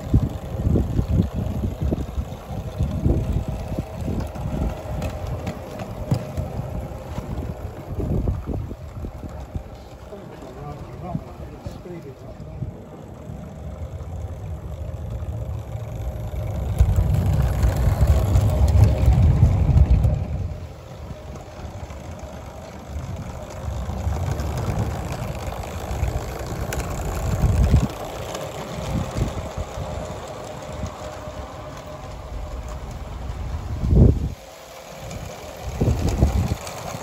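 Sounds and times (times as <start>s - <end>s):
model train rumbling past: 0.0s - 37.0s.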